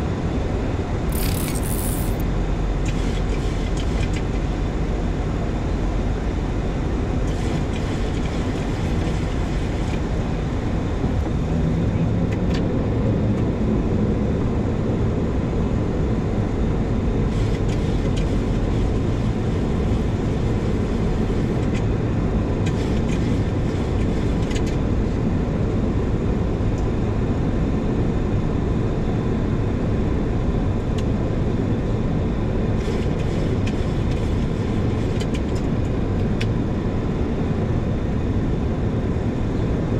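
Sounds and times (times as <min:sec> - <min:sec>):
rushing airflow and engine noise: 0:00.0 - 0:39.9.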